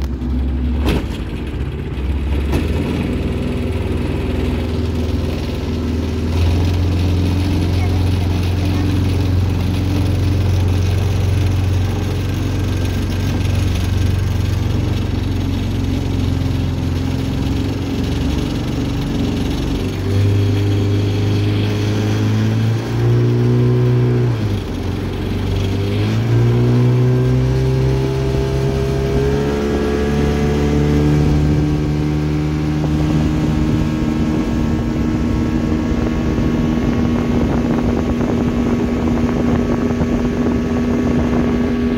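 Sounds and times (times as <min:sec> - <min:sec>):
motorboat engine droning: 0:00.0 - 0:41.9.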